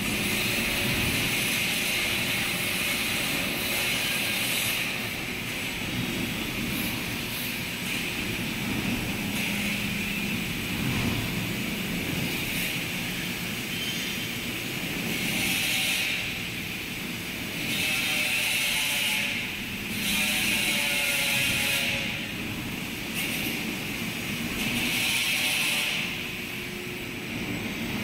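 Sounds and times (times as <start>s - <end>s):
hissing cutter on steel: 0.0s - 10.7s, 12.0s - 26.6s.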